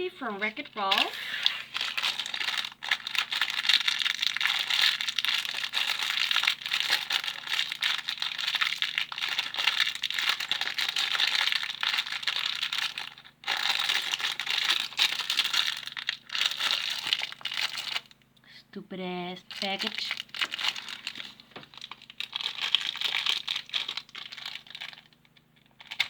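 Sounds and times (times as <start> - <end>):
plastic packaging crinkling: 0.0 - 18.2, 19.4 - 26.0.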